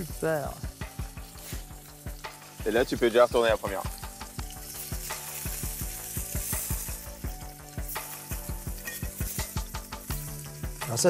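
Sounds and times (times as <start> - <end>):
spatula turning meat: 0.0 - 10.9
beef sizzling in a pan: 0.0 - 11.0.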